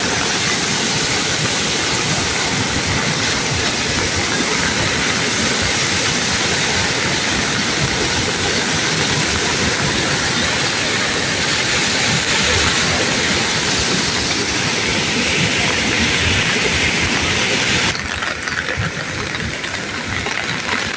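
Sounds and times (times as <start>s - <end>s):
rushing water: 0.0s - 20.9s.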